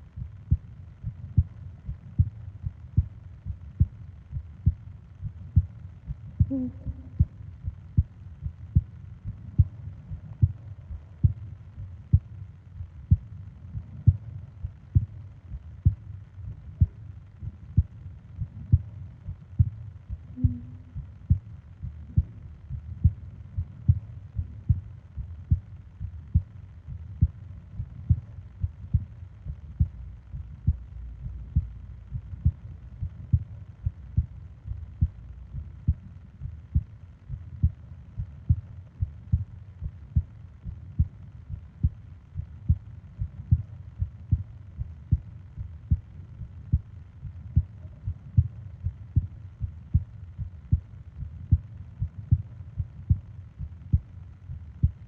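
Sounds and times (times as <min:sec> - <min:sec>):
faint steady hiss: 0:00.0 - 0:55.0
human heartbeat: 0:00.0 - 0:55.0.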